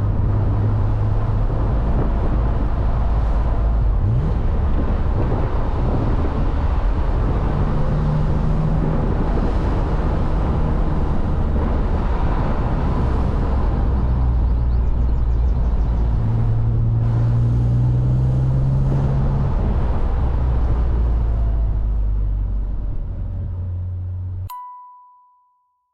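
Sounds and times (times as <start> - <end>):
car engine running: 0.0 - 24.5
wind and road noise: 0.0 - 24.5.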